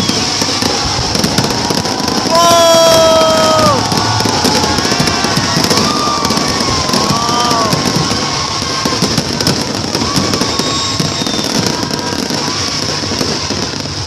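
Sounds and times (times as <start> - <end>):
fireworks crackling: 0.0 - 14.0
fireworks whistling: 0.0 - 14.0.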